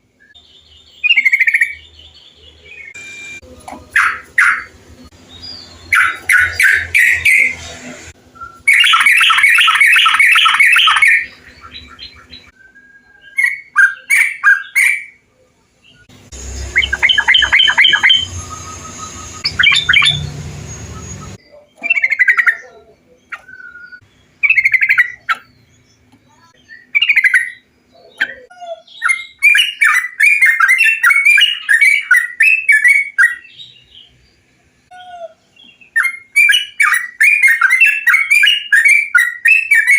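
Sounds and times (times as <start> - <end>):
bulbuls singing: 0.3 - 39.9.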